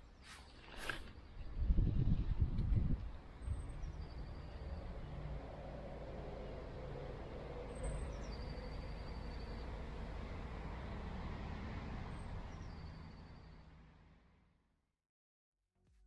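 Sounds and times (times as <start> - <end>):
distant road traffic rumble: 0.0 - 14.5.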